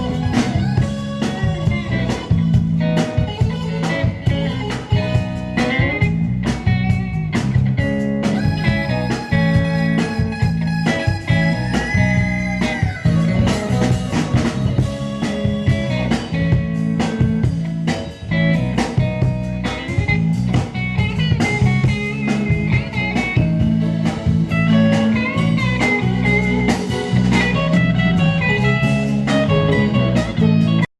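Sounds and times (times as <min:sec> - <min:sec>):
lead guitar bending notes: 0:00.0 - 0:30.9
live band playing blues rock: 0:00.0 - 0:30.9.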